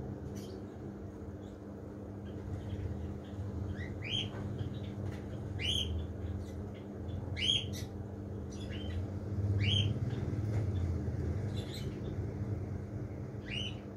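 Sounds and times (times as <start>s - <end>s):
aquarium pump hum: 0.0s - 13.9s
birds chirping: 0.0s - 13.9s.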